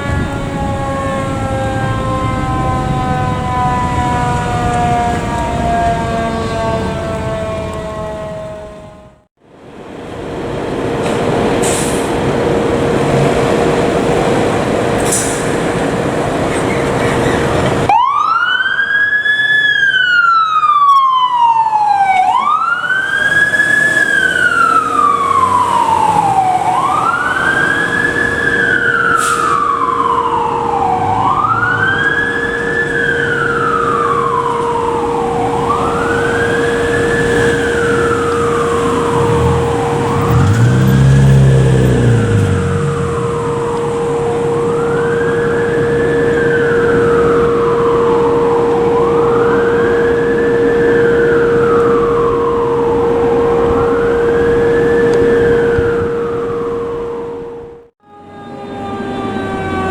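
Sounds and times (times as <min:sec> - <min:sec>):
fire truck siren wailing: 0:00.0 - 0:09.3, 0:11.1 - 0:59.9
rushing vehicle noise: 0:00.0 - 0:20.2, 0:20.9 - 0:59.9.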